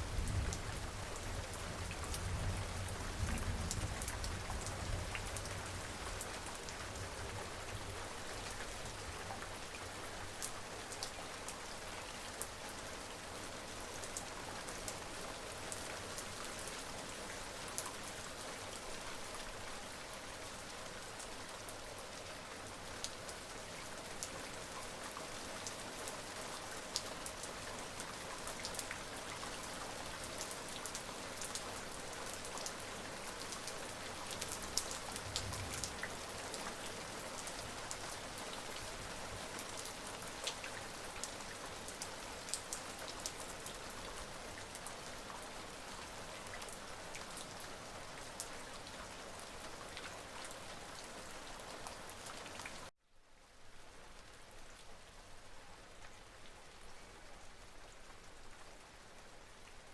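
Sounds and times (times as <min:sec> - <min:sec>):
rain falling: 0:00.0 - 0:59.9
raindrops hitting a surface: 0:00.0 - 0:59.9.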